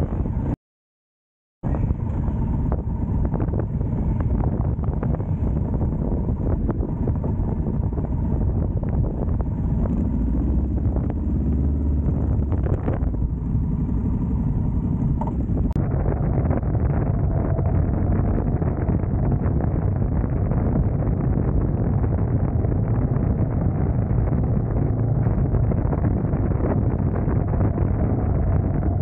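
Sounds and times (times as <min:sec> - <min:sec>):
motorcycle engine running: 0:01.7 - 0:29.0.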